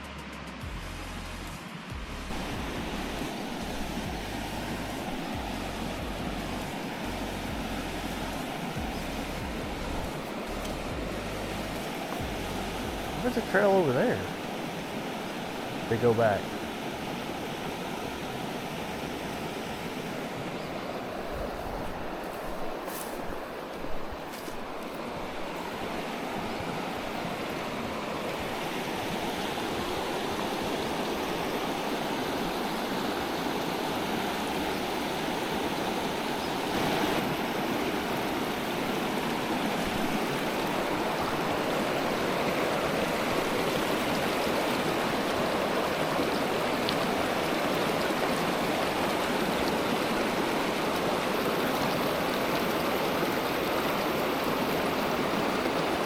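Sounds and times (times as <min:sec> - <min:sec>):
river rushing over rocks: 0:01.7 - 0:56.0.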